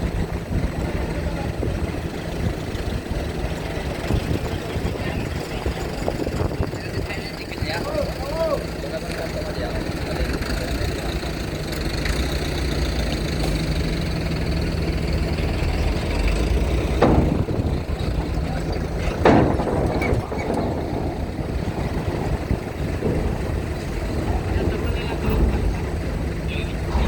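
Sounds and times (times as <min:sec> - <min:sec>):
vehicle engines idling: 0:00.0 - 0:27.0.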